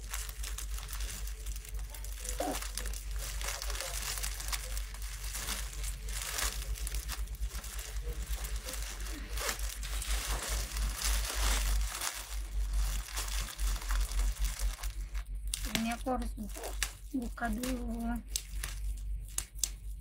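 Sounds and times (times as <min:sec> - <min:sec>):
plastic packaging crinkling: 0:00.0 - 0:20.0
steady low rumble: 0:00.0 - 0:20.0.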